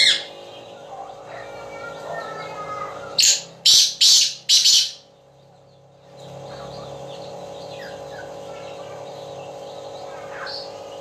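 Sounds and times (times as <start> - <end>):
francolin harsh calls: 0.0 - 11.0
steady low hum: 0.0 - 11.0.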